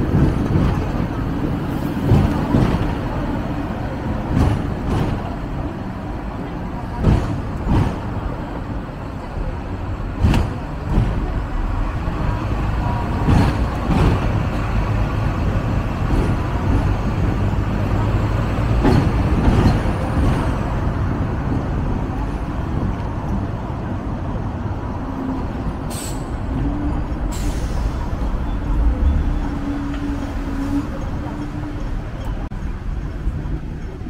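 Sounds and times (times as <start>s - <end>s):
tram rumbling: 0.0s - 34.0s.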